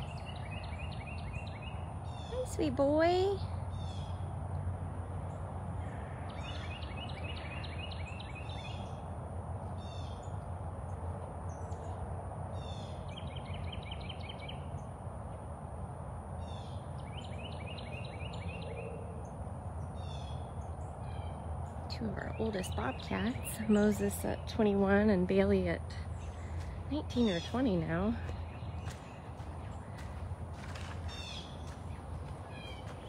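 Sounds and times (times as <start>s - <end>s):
songbird chirping: 0.0s - 9.1s, 9.7s - 15.0s, 16.4s - 33.0s.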